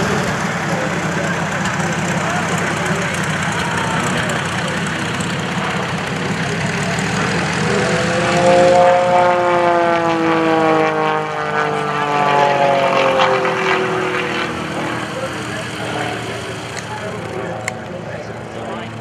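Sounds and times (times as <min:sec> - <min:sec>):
propeller plane droning overhead: 0:00.0 - 0:19.0.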